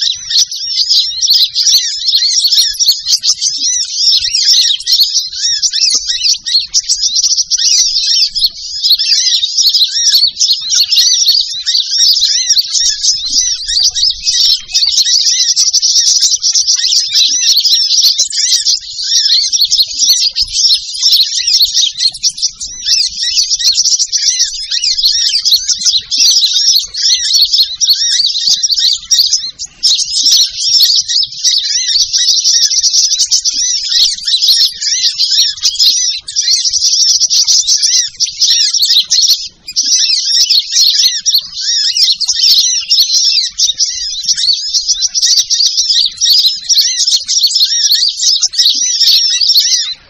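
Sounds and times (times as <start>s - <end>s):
sunbird twittering and trilling: 0.0s - 50.0s.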